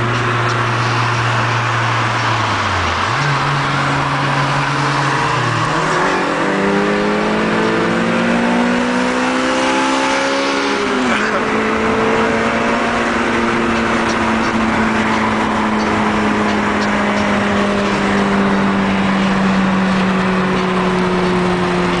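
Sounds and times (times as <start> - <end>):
car engine droning: 0.0 - 22.0
road and wind noise: 0.0 - 22.0.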